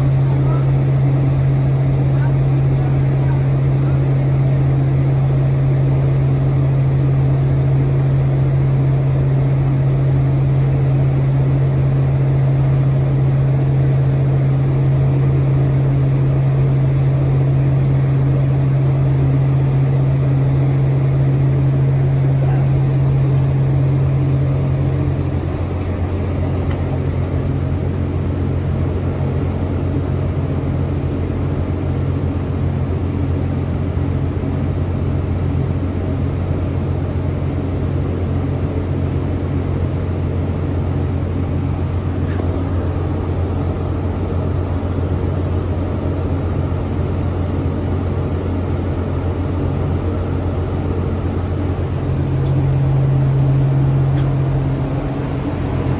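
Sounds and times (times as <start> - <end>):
machinery hum: 0.0 - 55.9.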